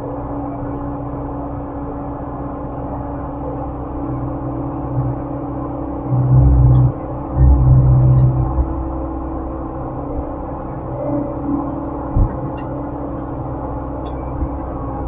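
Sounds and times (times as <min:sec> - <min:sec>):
diesel engine from inside cab: 0:00.0 - 0:15.0.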